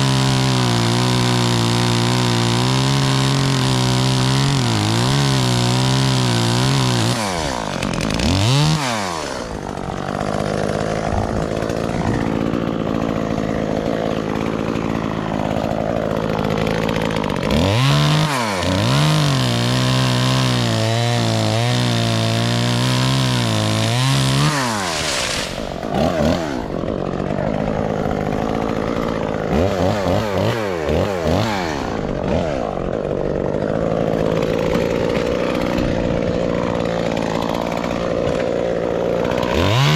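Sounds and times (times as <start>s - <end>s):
chainsaw engine idling and revving: 0.0s - 39.9s.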